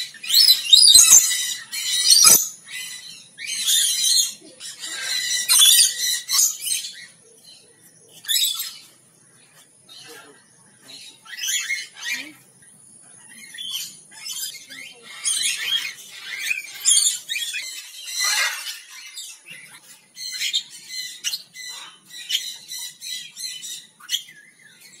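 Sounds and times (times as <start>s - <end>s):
parrots squawking and chirping: 0.0s - 25.0s.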